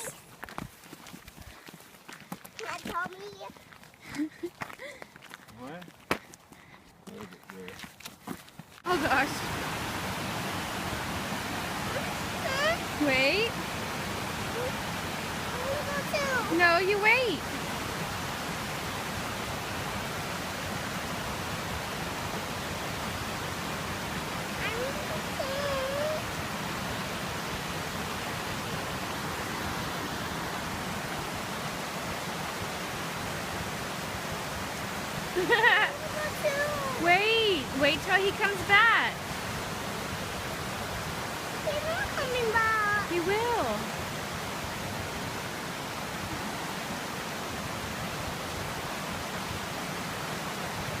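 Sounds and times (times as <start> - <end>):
waterfall rushing: 0.0 - 0.3, 2.6 - 3.7, 8.9 - 51.0.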